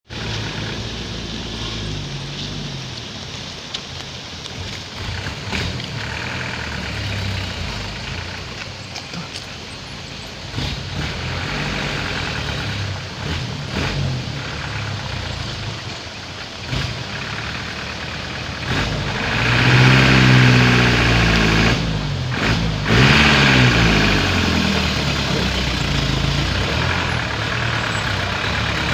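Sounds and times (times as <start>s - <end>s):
truck engine revving: 0.0s - 28.9s.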